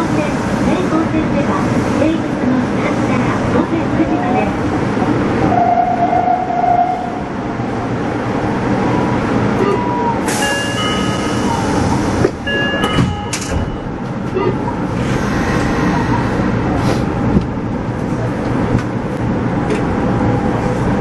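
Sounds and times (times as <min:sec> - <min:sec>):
subway train rumble and hum: 0:00.0 - 0:21.0.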